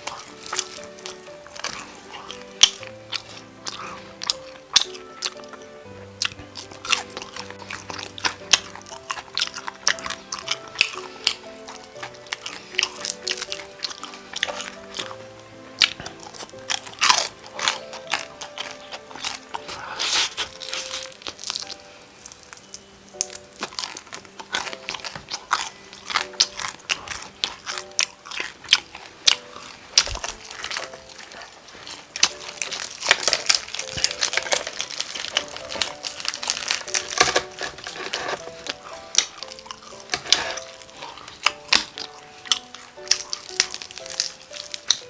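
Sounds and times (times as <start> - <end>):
crunching fried chicken: 0.0 - 15.2, 15.8 - 45.0
soft background music: 0.0 - 45.0.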